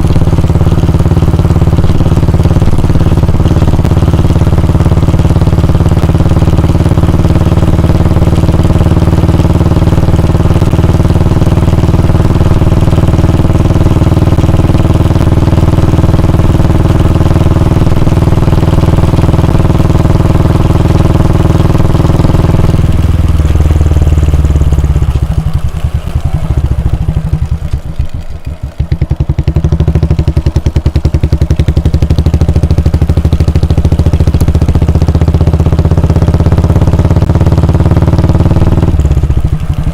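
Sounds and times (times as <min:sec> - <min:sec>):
exhaust thumps at idle: 0:00.0 - 0:39.9
motorcycle engine running: 0:00.0 - 0:39.9.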